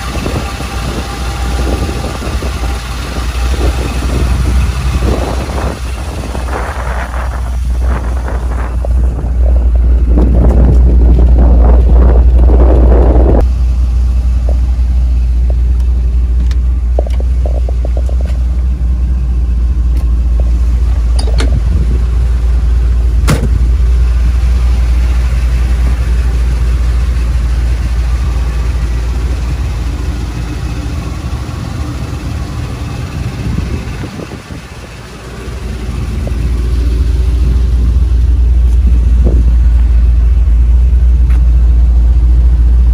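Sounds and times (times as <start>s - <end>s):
car engine rumbling: 0.0s - 42.9s.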